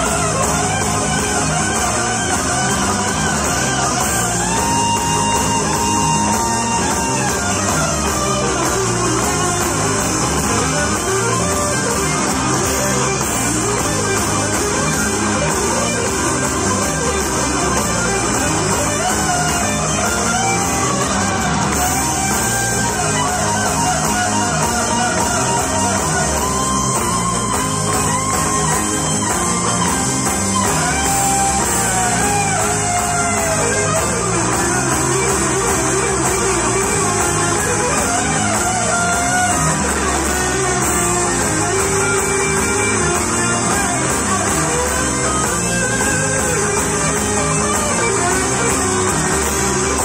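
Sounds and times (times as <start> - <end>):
live rock band through pa: 0.0 - 50.0.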